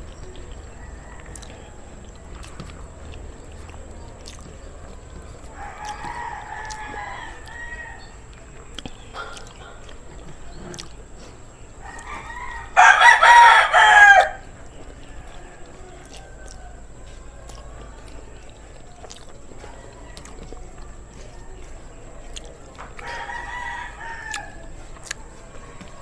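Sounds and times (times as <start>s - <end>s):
rooster crowing: 0.2s - 3.4s, 4.0s - 8.6s, 11.8s - 18.5s, 19.6s - 26.0s.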